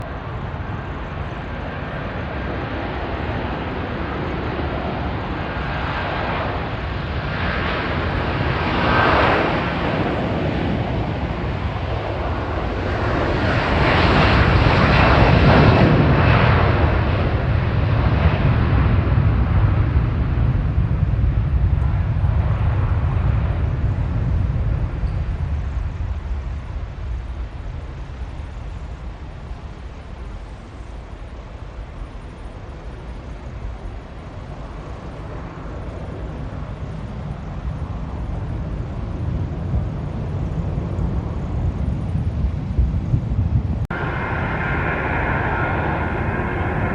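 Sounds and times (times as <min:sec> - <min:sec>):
jet airliner engines passing: 0:00.0 - 0:46.9.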